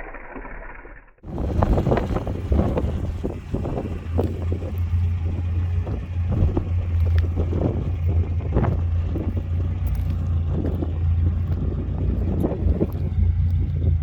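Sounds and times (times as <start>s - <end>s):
car engine running at low revs: 1.2s - 14.0s.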